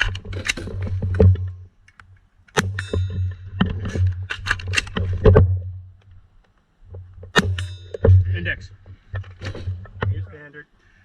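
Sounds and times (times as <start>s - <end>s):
sharp clacks and knocks: 0.0s - 10.2s
low hum: 0.6s - 6.3s, 6.9s - 10.3s.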